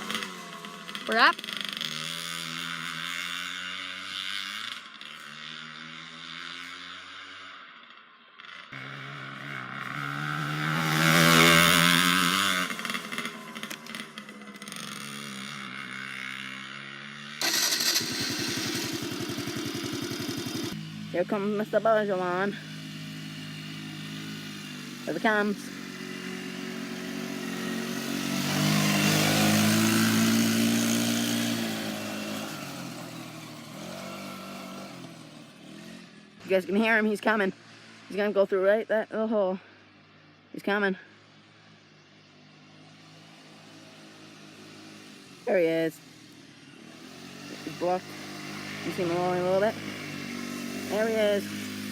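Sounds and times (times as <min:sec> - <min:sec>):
atv engine revving: 0:00.0 - 0:40.0, 0:40.6 - 0:51.9.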